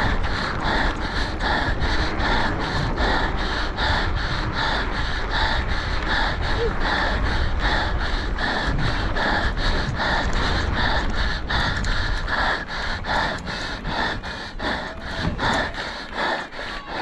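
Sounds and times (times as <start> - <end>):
person panting heavily: 0.0 - 17.0
steady low rumble: 0.0 - 17.0.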